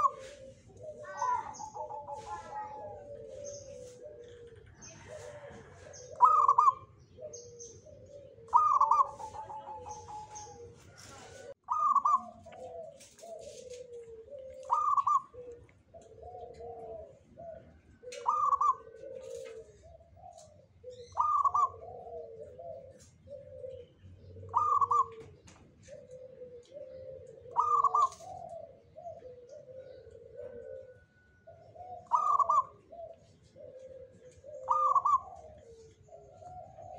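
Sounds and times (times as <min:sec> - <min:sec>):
dove cooing: 0:00.0 - 0:36.9.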